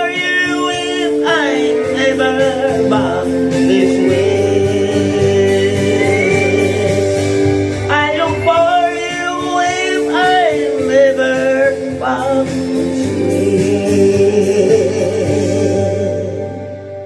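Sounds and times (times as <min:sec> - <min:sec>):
sung cover song: 0:00.0 - 0:17.0.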